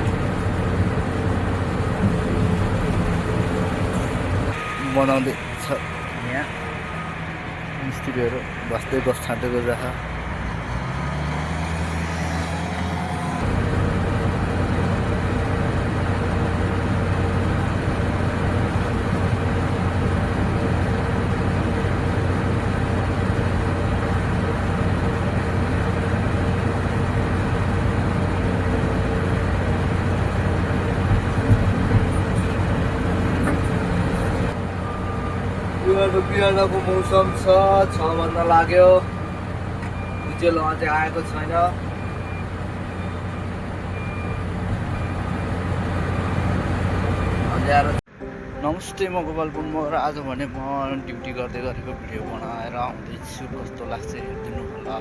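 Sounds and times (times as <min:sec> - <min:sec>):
heavy diesel engine: 0:00.0 - 0:48.6.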